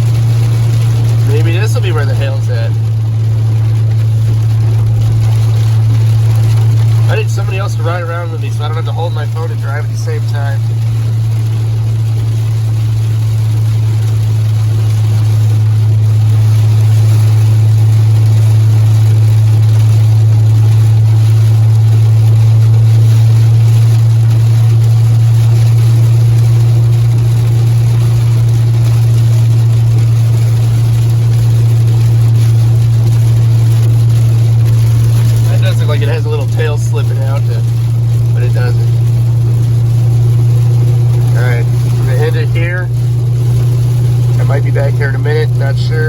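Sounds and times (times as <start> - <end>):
car cabin low drone: 0.0 - 46.0
rain and wet road hiss: 0.0 - 46.0.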